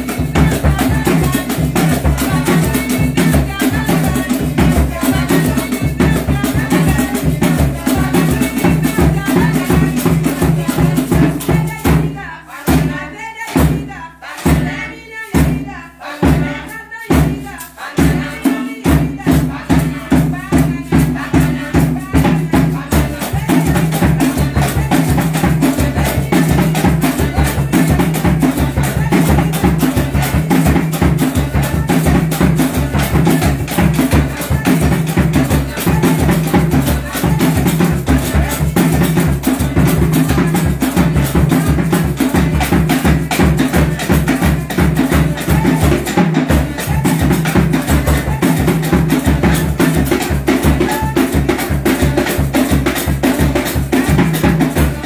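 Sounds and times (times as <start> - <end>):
dance drumming and percussion: 0.0 - 55.0
voices singing: 0.0 - 55.0.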